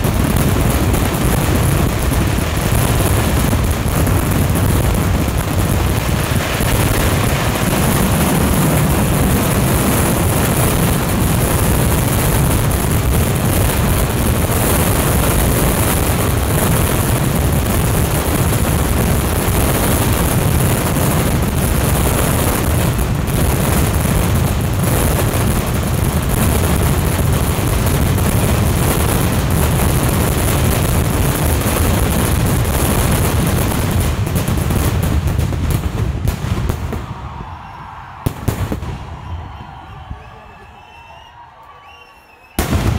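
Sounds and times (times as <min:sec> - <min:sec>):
firecrackers barrage: 0:00.0 - 0:42.9.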